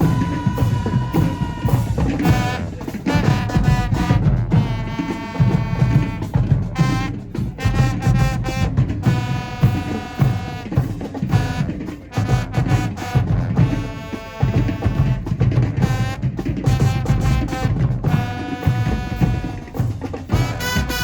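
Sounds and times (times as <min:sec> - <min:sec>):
marching band brass chords: 0:00.0 - 0:21.0
pounding drumline: 0:00.0 - 0:21.0.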